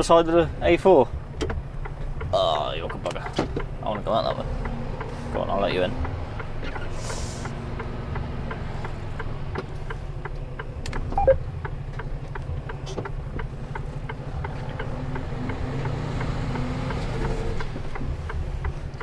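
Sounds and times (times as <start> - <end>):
diesel engine idling: 0.0 - 19.0
turn indicator ticking: 0.0 - 19.0.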